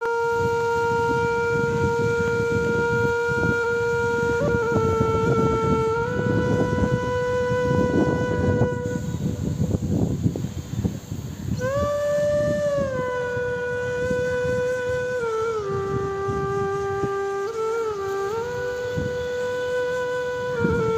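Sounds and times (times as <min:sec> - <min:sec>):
long horn-like note: 0:00.0 - 0:10.2, 0:11.5 - 0:20.9.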